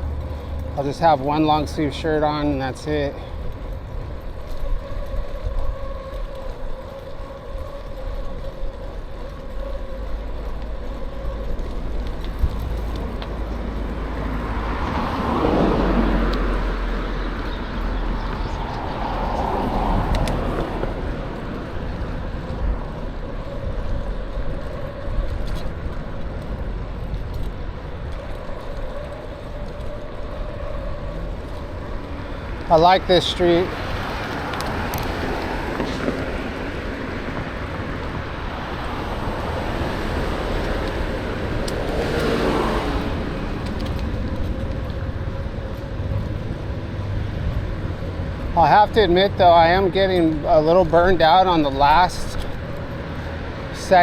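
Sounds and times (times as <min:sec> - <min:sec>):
bicycle road noise: 0:00.0 - 0:54.0
motor vehicles passing: 0:00.0 - 0:54.0
wind rumble: 0:00.0 - 0:54.0.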